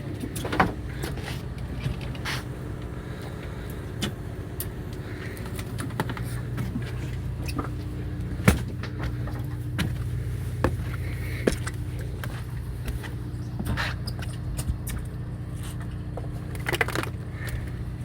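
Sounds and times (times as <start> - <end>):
boat machinery humming: 0.0 - 18.0.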